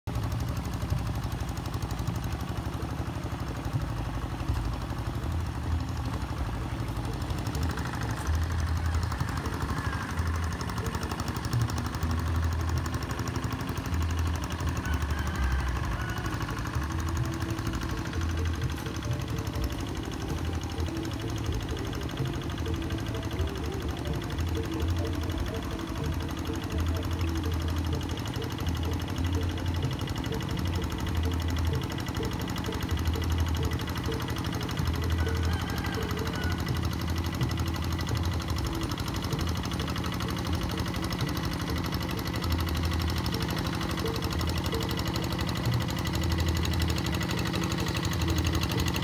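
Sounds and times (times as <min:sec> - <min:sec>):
diesel engine chugging: 0:00.0 - 0:49.0.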